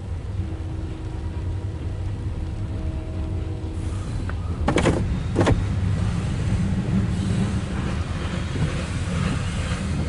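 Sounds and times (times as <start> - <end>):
train cars rumbling past: 0.0 - 10.0.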